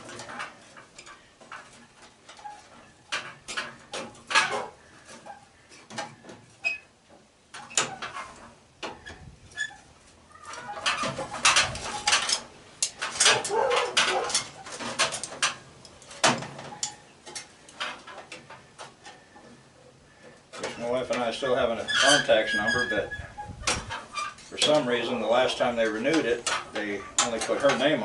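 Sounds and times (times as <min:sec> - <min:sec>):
metal clanks and scrapes: 0:00.0 - 0:06.8, 0:07.6 - 0:09.8, 0:10.5 - 0:28.0.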